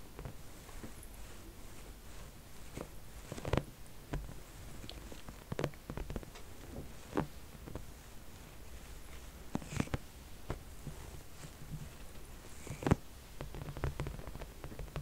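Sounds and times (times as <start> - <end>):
hands rubbing on leather: 0.1 - 15.0.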